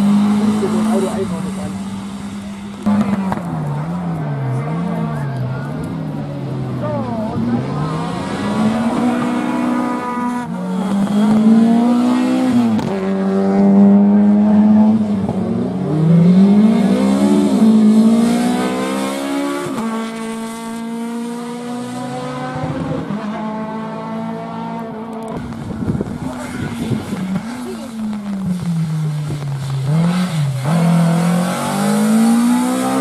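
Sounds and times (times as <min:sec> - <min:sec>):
rally car engine accelerating: 0:00.0 - 0:33.0.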